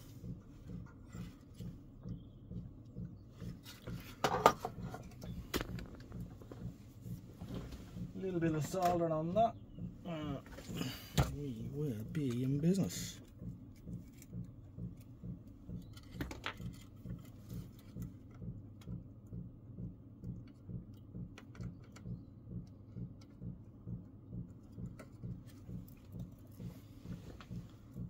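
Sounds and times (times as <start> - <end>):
low steady pulse: 0.0 - 28.0.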